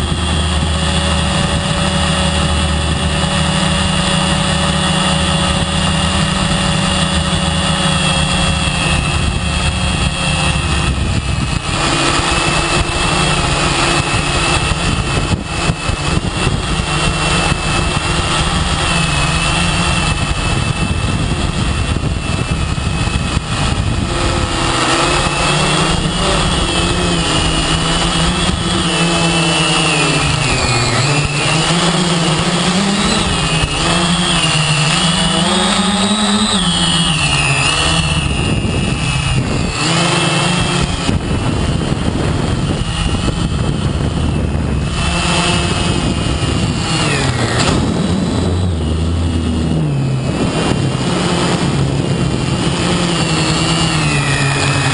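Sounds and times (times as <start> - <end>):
broad rushing noise: 0.0 - 54.9
drone motors whining: 0.0 - 54.9.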